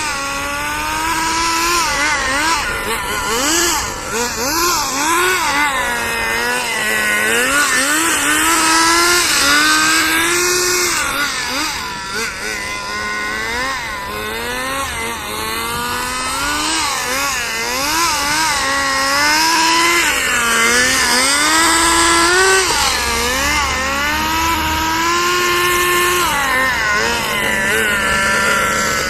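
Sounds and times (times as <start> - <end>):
rc car engine revving: 0.0 - 29.0.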